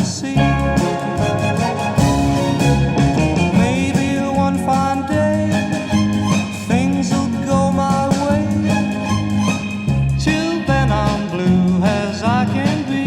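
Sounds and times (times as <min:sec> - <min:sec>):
pop record with gliding melody: 0:00.0 - 0:13.0.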